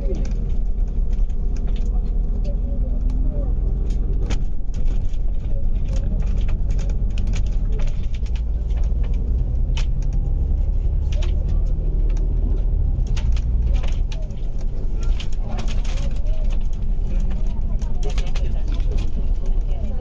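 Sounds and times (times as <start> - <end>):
bus engine and road drone: 0.0 - 20.0
rattles from bus body: 0.0 - 20.0.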